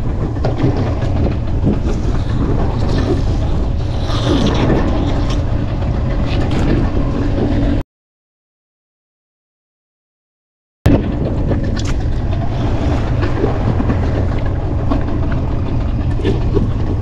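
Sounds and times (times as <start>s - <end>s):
wind buffeting microphone: 0.0s - 7.8s, 10.9s - 17.0s.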